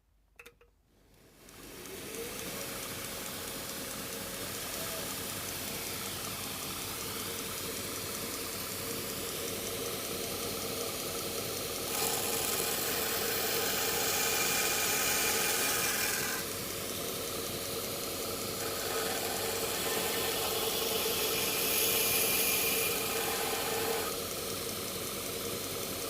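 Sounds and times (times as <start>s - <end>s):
belt grinder motor running: 1.6s - 26.0s.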